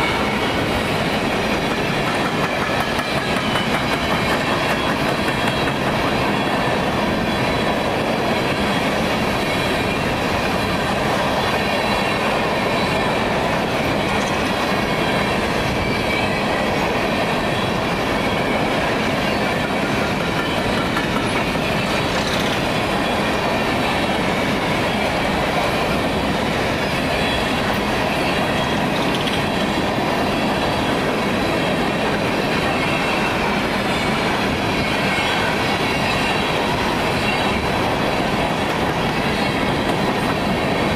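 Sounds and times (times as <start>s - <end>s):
clickety-clack of rail joints: 0.0s - 40.9s
train rolling on rails: 0.0s - 40.9s.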